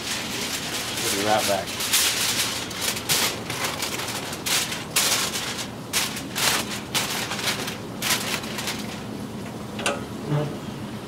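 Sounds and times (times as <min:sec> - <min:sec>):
aluminum foil crinkling: 0:00.0 - 0:09.5.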